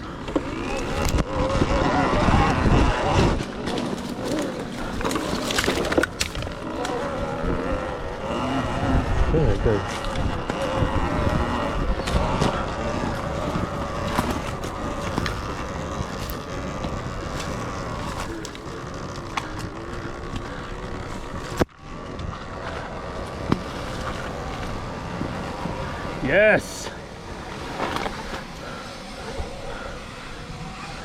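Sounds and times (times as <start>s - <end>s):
electric motor whine: 0.0s - 31.0s
wind and tyre noise: 0.0s - 31.0s.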